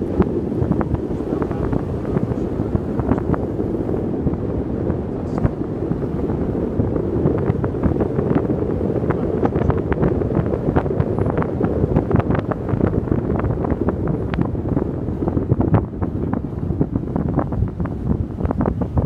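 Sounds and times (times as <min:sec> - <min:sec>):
road noise rumble: 0:00.0 - 0:19.0
wind buffeting microphone: 0:00.0 - 0:19.0.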